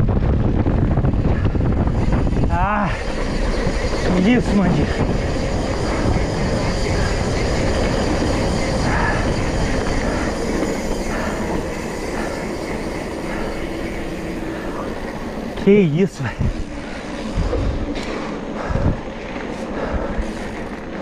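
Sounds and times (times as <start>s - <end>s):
bike tyres rumbling on dirt: 0.0s - 21.0s
wind buffeting microphone: 0.0s - 21.0s.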